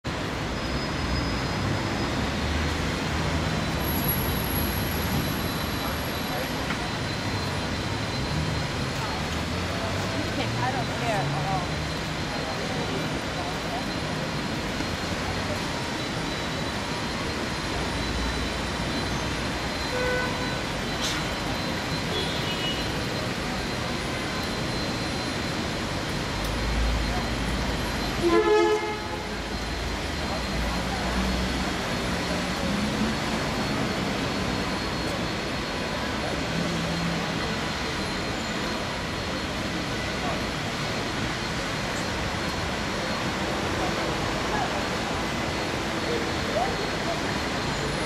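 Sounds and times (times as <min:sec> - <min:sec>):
urban hubbub: 0:00.0 - 0:48.0
passing traffic rumble and hiss: 0:00.1 - 0:48.0.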